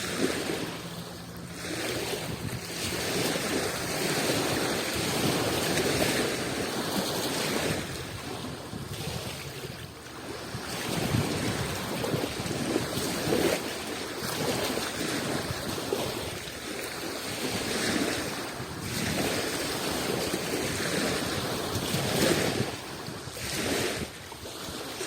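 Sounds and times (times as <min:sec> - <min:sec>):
sea waves washing in: 0:00.0 - 0:25.0.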